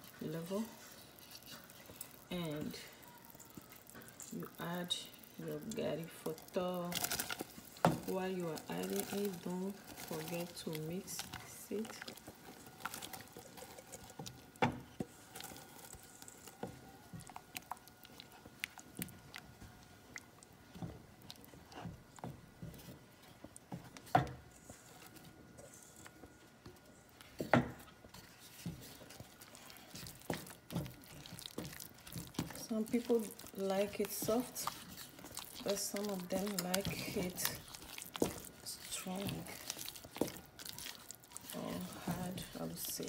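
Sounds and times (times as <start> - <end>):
spatula stirring thick mixture: 0.0 - 43.0.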